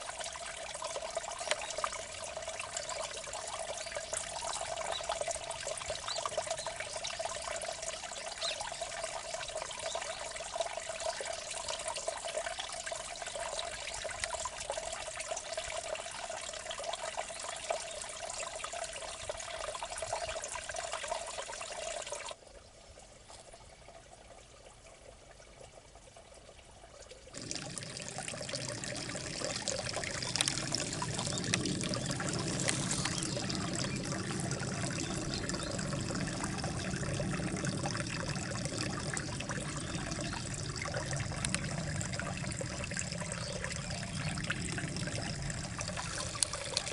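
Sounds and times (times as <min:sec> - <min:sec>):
water trickling in a channel: 0:00.0 - 0:46.9.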